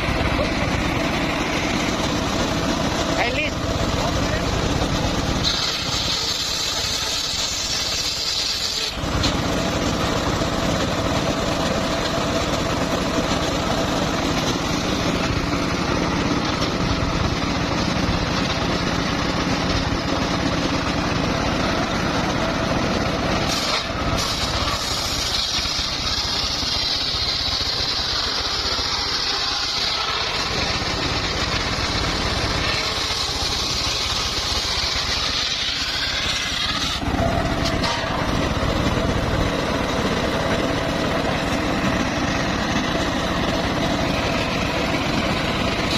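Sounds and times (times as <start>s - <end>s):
circular saw running: 0.0s - 45.9s
high whine: 0.0s - 45.9s.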